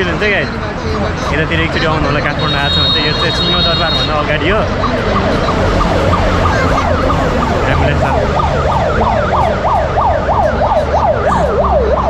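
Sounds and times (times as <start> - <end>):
street traffic rumble: 0.0 - 12.0
vehicle siren yelping: 1.5 - 12.0.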